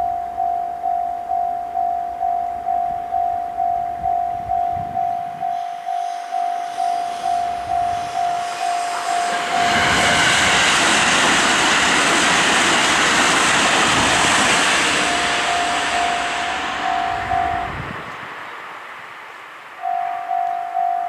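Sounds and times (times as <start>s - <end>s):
level-crossing warning bell: 0.0s - 11.8s, 13.8s - 18.3s, 19.8s - 21.0s
train passing with rumble: 0.0s - 21.0s.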